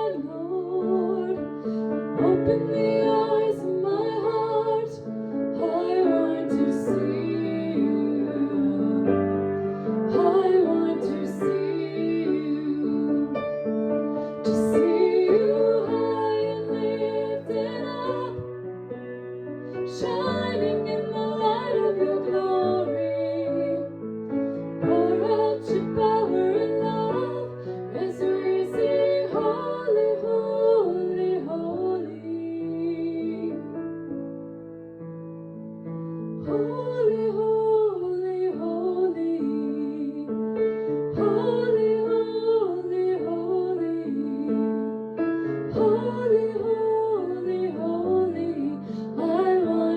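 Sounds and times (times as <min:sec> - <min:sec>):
woman singing worship song: 0:00.0 - 0:13.5, 0:14.3 - 0:18.5, 0:19.8 - 0:24.0, 0:24.7 - 0:33.8, 0:36.5 - 0:40.4, 0:41.0 - 0:45.0, 0:45.6 - 0:49.9
piano accompaniment: 0:00.0 - 0:49.9.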